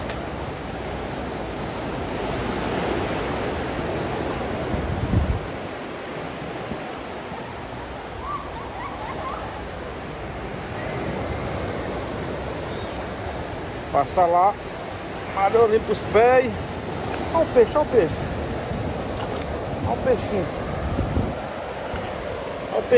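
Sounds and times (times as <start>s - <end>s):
surf washing onto beach: 0.0s - 22.9s.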